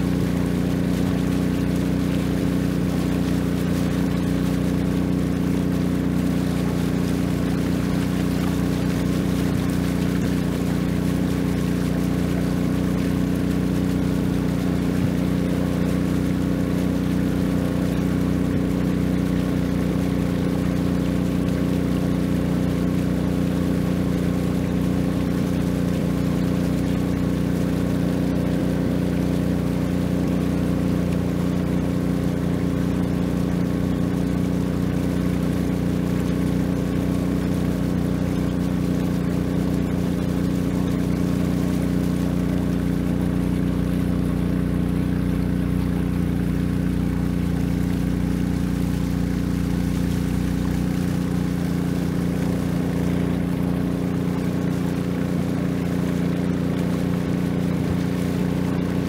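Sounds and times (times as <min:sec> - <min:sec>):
boat engine droning: 0:00.0 - 0:59.0
faint water hiss: 0:00.0 - 0:59.0.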